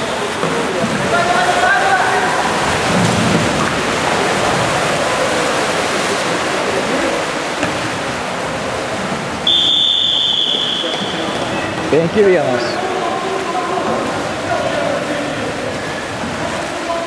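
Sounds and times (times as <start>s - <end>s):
kayak paddles in water: 0.0s - 17.0s
water splashing and churning: 0.0s - 17.0s.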